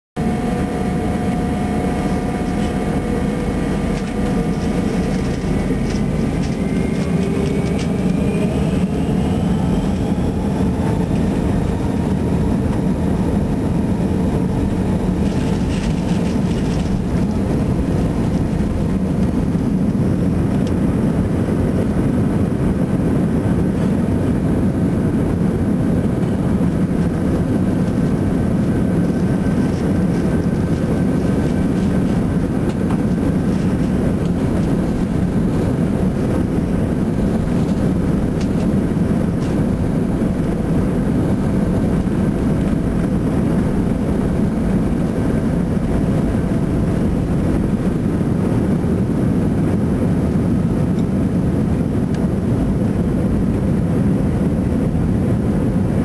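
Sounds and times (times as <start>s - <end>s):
jet engines rumbling and whining: 0.2s - 56.0s.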